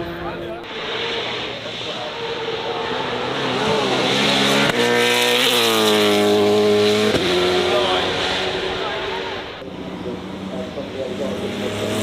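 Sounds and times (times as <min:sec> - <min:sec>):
racing car engine at high revs: 0:00.0 - 0:12.0.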